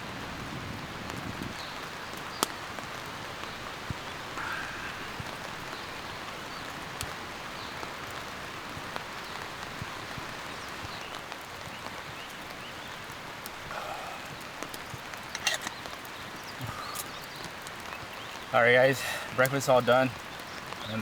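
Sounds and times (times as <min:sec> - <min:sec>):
rain falling: 0:00.0 - 0:21.0
raindrops tapping close by: 0:00.0 - 0:21.0.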